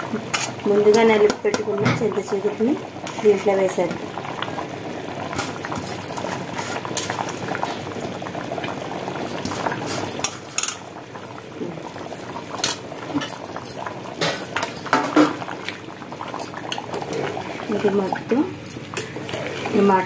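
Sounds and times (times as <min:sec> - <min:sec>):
curry bubbling in a pot: 0:00.0 - 0:20.0.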